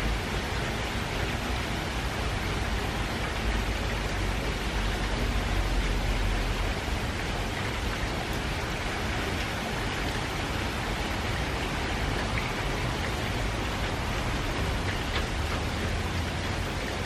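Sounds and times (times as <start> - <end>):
steady rain on garden: 0.0 - 17.0.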